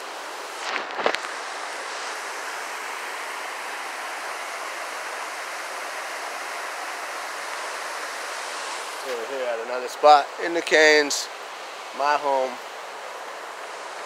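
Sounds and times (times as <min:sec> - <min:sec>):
creek rushing over rocks: 0:00.0 - 0:14.0.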